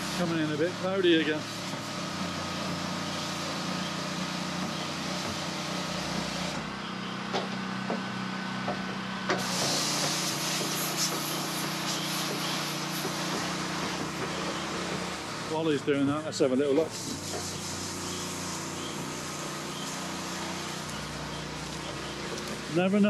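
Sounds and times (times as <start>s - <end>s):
water spraying: 0.0s - 6.8s, 9.3s - 23.0s
engine and pump humming: 0.0s - 23.0s.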